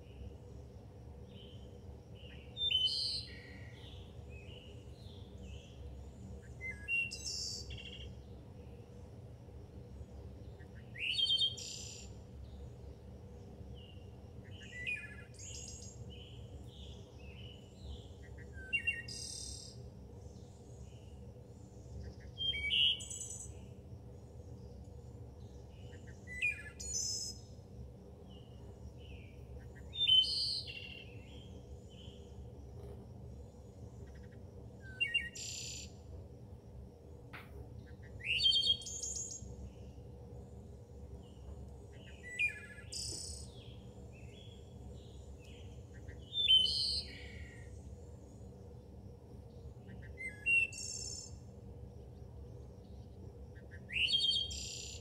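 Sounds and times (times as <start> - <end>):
faint low hum: 0.0 - 55.0
songbirds chirping: 0.0 - 55.0.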